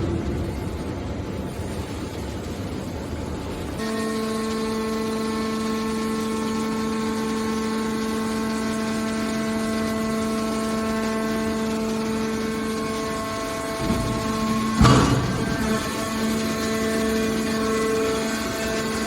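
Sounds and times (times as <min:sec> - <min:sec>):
hydraulic power unit hum: 0:00.0 - 0:19.0.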